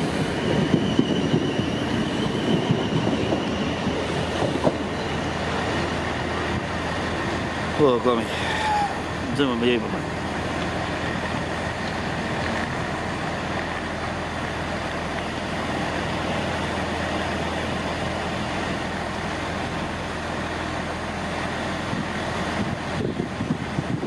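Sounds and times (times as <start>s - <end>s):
electric train rumble and hum: 0.0s - 24.0s.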